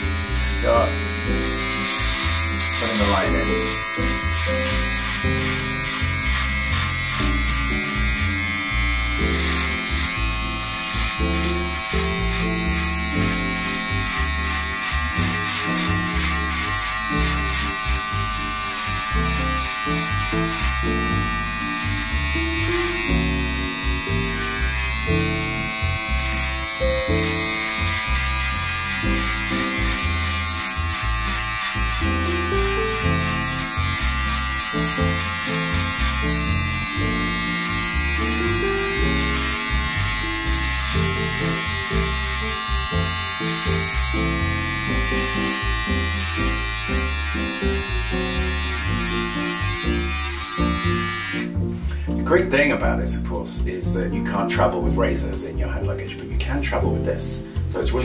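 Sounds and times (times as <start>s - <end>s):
beard trimmer buzzing: 0.0s - 51.9s
background music with bass: 0.0s - 58.0s.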